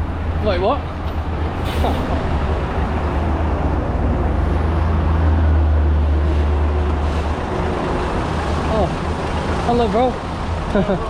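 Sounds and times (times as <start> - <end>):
highway traffic passing: 0.0 - 11.0
truck engine rumble: 0.0 - 11.0.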